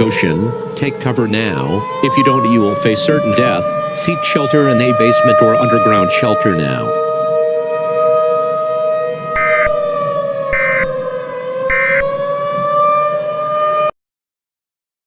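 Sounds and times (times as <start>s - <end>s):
civil defense siren: 0.0s - 14.0s.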